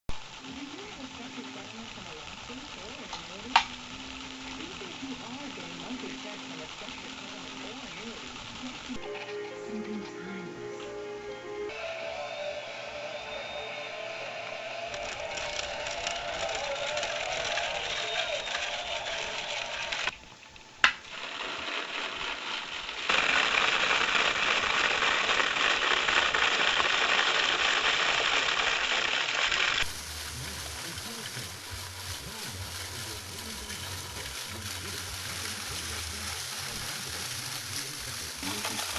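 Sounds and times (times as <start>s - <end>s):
model machinery hissing and rattling: 0.1s - 9.0s, 14.9s - 20.2s, 21.0s - 38.9s.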